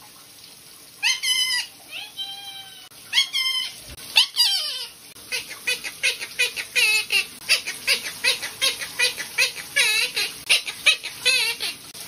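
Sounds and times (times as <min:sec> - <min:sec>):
parakeet squawking and chirping: 0:01.0 - 0:02.5, 0:03.1 - 0:11.8.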